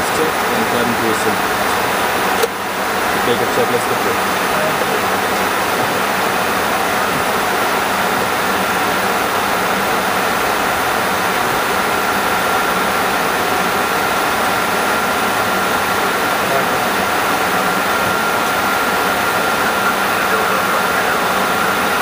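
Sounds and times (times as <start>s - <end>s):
jet engines humming: 0.0s - 22.0s
airflow rushing: 1.2s - 21.8s.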